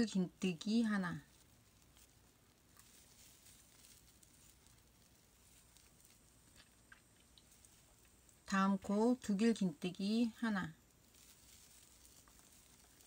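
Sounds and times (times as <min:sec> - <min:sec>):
crochet hook rustles and ticks: 0:00.0 - 0:13.0.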